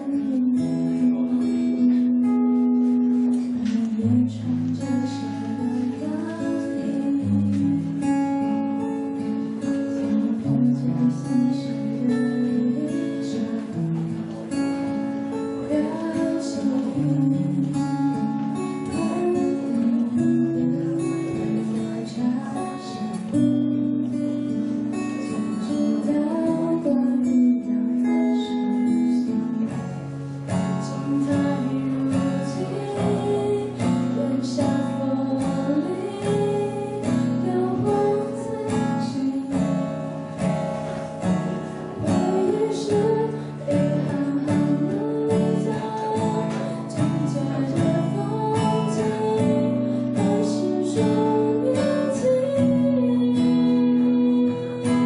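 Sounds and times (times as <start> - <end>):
acoustic guitar ballad: 0.0 - 55.0.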